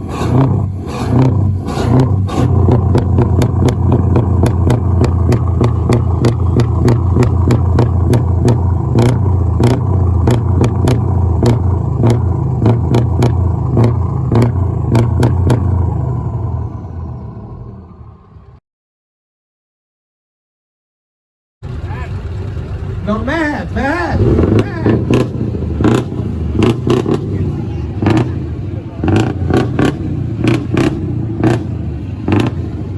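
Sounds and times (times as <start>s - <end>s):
sharp exhaust cracks: 0.0s - 16.5s, 21.6s - 32.9s
diesel truck engine rumbling: 0.0s - 18.6s, 21.6s - 32.9s.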